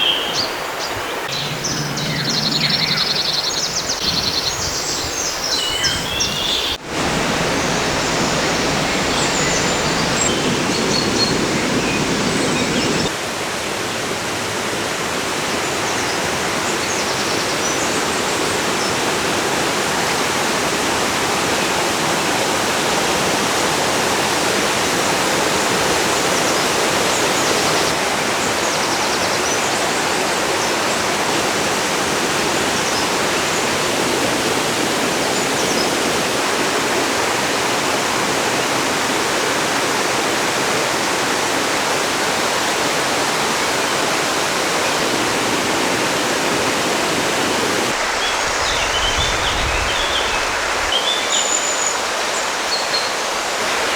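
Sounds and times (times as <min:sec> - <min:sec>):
river rushing over rocks: 0:03.4 - 0:53.9.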